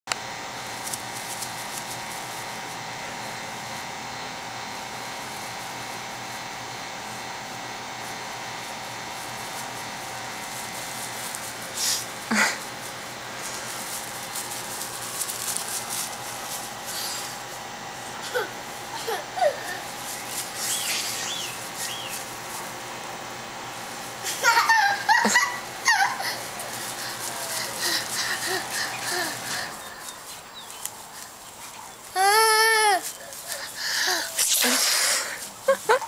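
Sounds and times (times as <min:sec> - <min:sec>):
steady machine hum: 0:00.1 - 0:36.0.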